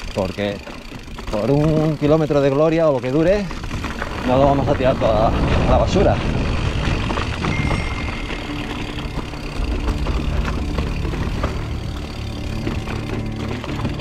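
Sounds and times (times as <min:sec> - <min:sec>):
bike knocks and rattles: 0:00.0 - 0:14.0
bike tyres rumbling over rocks: 0:00.0 - 0:14.0.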